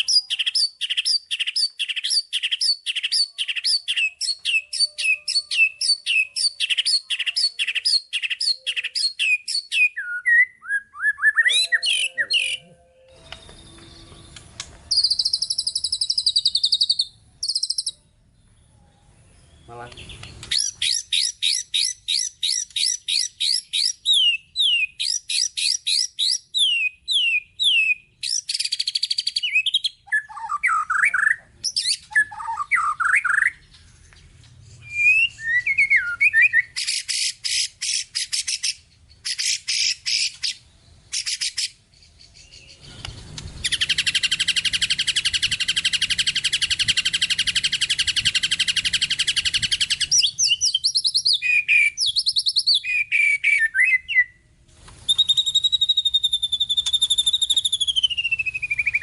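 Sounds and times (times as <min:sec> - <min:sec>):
songbird singing varied song: 0:00.0 - 0:59.0.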